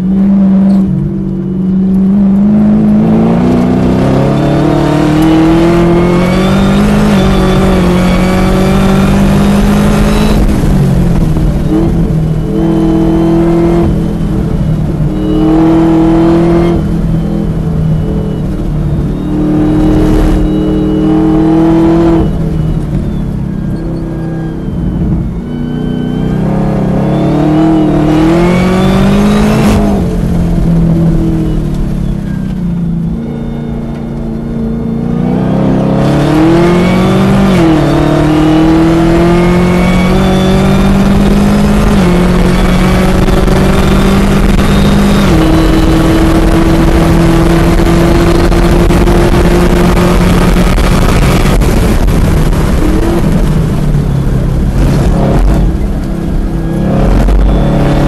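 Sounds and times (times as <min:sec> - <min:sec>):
engine pitch drops at upshifts: 0:00.0 - 0:58.0
race car engine at full throttle: 0:00.0 - 0:58.0.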